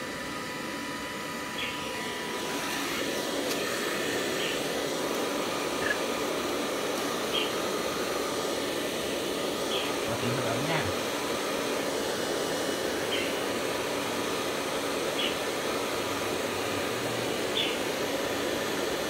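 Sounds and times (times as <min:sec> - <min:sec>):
electric hair dryer blowing: 0:00.0 - 0:19.0.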